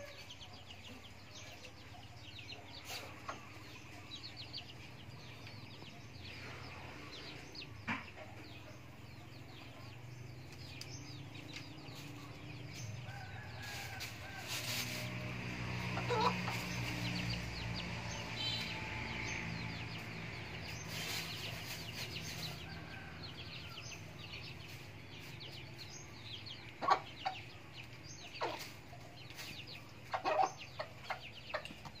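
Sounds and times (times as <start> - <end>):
birds chirping faintly: 0.0 - 32.0.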